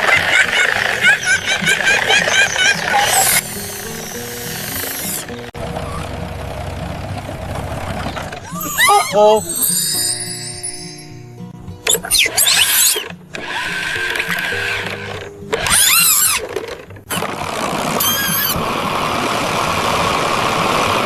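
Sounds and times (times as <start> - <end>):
power saw cutting wood: 0.0 - 10.0, 11.9 - 21.0
wavering squeals: 0.0 - 17.3, 18.0 - 19.7
background music: 0.0 - 21.0.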